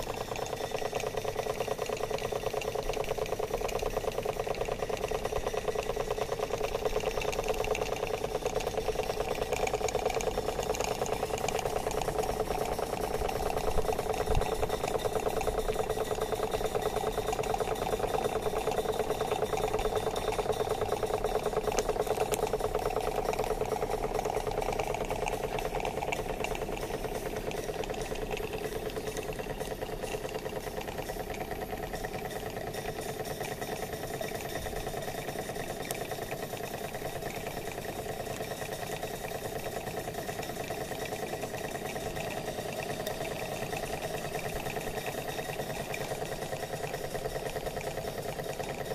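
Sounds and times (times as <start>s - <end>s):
steam engine chuffing: 0.0s - 48.9s.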